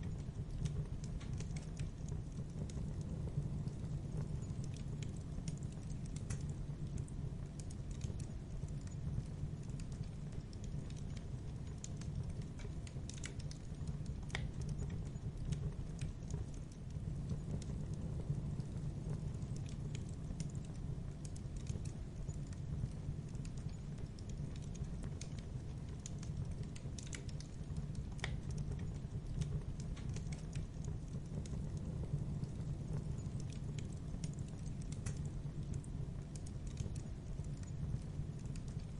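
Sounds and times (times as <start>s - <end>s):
fire crackling and snapping: 0.0s - 38.9s
fire rumbling in fireplace: 0.0s - 38.9s.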